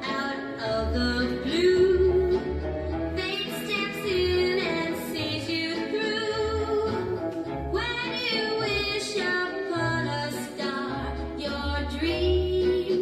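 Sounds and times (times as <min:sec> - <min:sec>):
instrumental backing with bass: 0:00.0 - 0:13.0
woman singing: 0:00.0 - 0:13.0.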